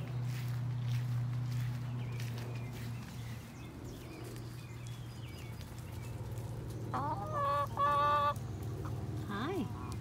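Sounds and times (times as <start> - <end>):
chickens calling: 0.0 - 10.0.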